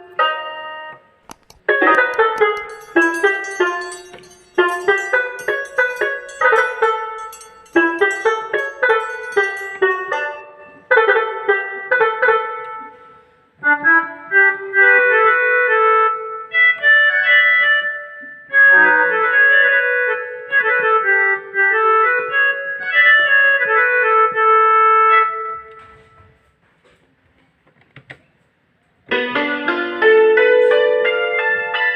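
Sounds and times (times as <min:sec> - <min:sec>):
electronic keyboard notes: 0:01.6 - 0:13.0, 0:13.8 - 0:26.1, 0:29.1 - 0:31.9.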